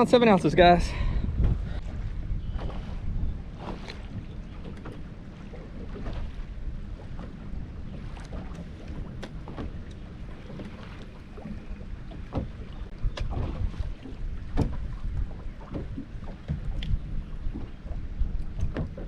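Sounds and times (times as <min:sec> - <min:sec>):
knocks and clicks on boat: 0:00.0 - 0:19.0
wind and water rumble: 0:00.0 - 0:19.0.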